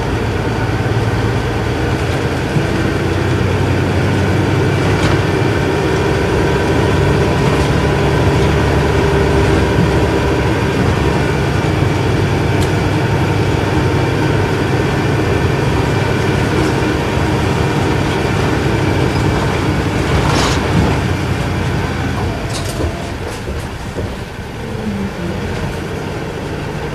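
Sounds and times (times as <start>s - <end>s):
bus diesel engine running: 0.0s - 26.9s.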